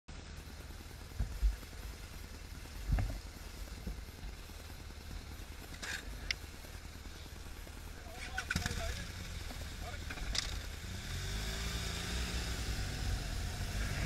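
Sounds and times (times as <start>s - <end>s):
motorcycle engine running: 0.1s - 14.0s.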